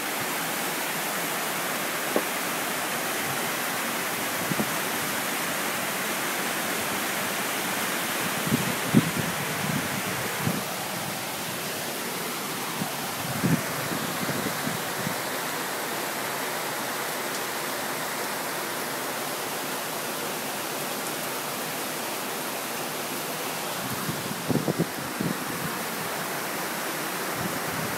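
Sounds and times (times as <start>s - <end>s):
flood stream running: 0.0s - 27.9s
heavy rain: 0.0s - 27.9s.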